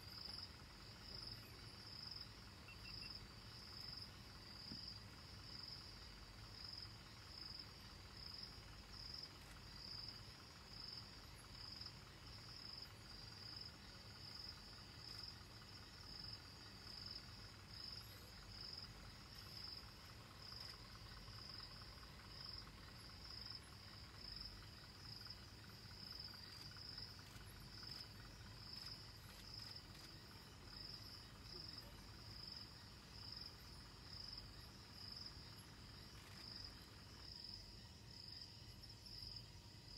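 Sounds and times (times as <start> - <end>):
faint low rumble: 0.0 - 39.9
insects trilling: 0.0 - 39.9.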